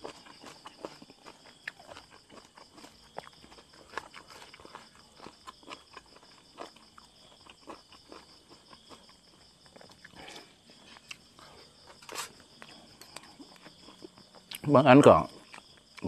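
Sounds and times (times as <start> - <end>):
person chewing and lip smacking: 0.0 - 14.7
crickets chirring: 0.0 - 16.0.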